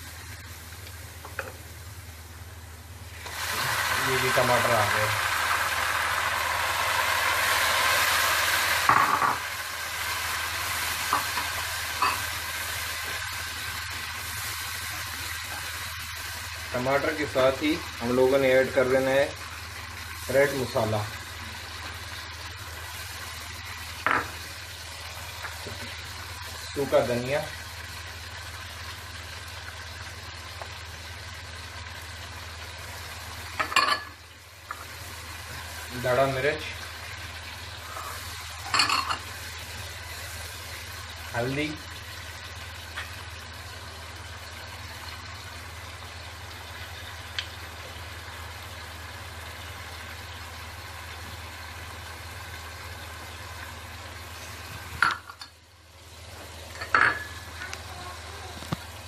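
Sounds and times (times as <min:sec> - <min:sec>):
tomatoes sizzling in a pan: 0:00.0 - 0:59.0.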